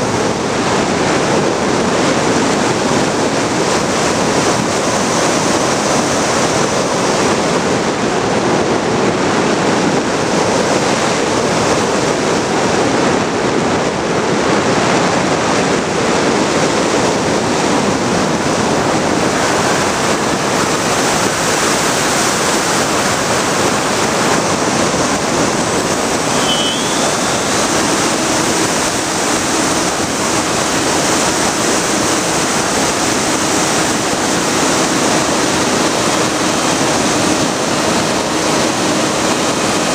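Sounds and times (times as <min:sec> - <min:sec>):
airflow over microphone: 0:00.0 - 0:39.9.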